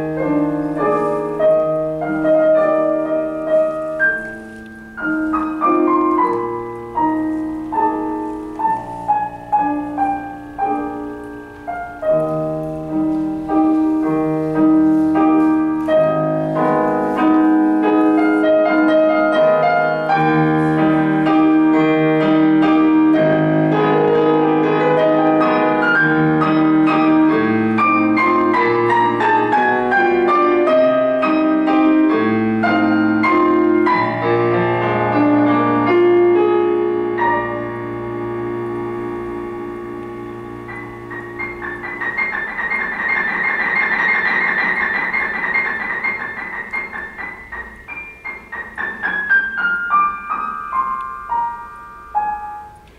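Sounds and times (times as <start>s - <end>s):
solo piano music: 0.0s - 52.9s.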